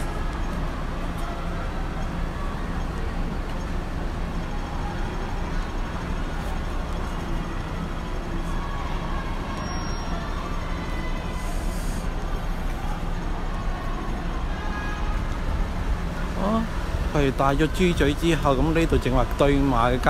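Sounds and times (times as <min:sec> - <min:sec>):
idling vehicles rumbling: 0:00.0 - 0:20.0
murmur of crowd voices: 0:00.0 - 0:20.0.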